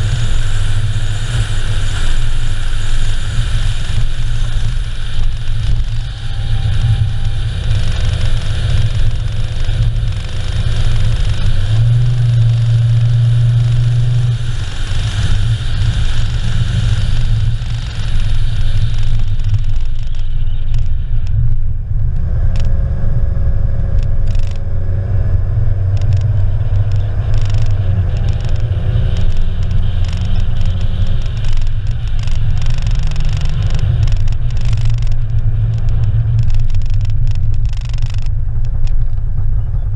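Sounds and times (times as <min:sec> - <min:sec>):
high hiss: 0:00.0 - 0:21.5, 0:26.4 - 0:37.6
scattered ticks: 0:00.0 - 0:21.6, 0:23.9 - 0:24.7, 0:25.9 - 0:39.3
car engine and tyres rumbling: 0:00.0 - 0:39.9.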